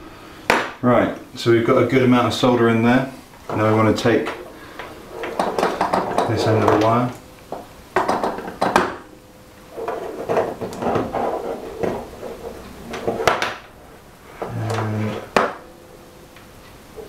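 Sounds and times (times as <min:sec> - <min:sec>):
scraping and rustling: 0:01.9 - 0:17.0.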